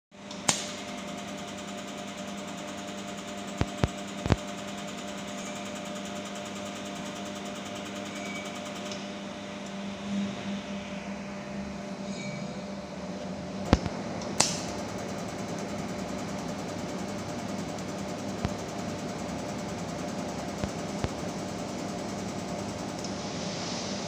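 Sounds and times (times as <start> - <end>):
welding machine hum: 0.2 - 9.8, 13.6 - 24.0.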